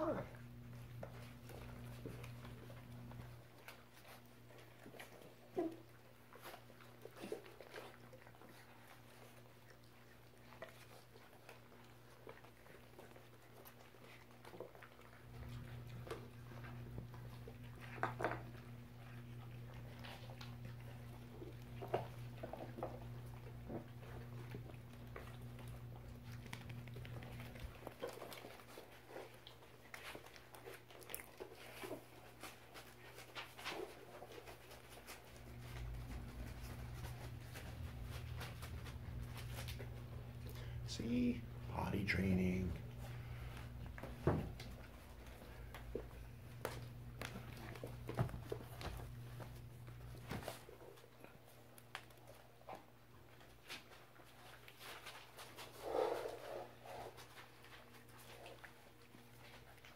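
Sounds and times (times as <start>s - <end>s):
puppies chewing: 0.0s - 59.9s
small puppy noises: 0.0s - 59.9s.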